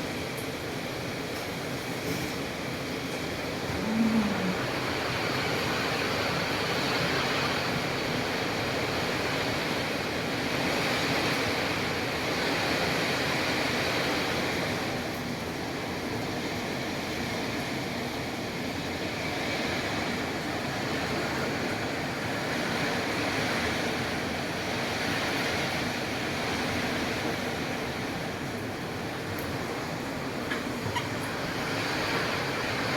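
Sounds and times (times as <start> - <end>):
rain falling in strong wind: 0.0 - 32.9.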